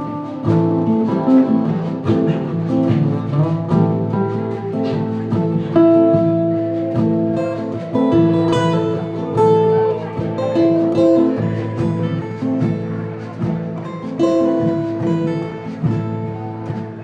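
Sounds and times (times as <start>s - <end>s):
acoustic guitars strumming: 0.0s - 17.0s.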